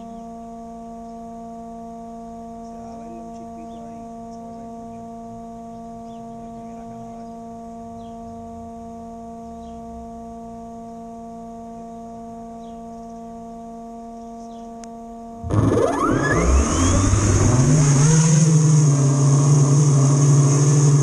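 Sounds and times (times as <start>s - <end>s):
steady hum of held tones: 0.0s - 21.0s.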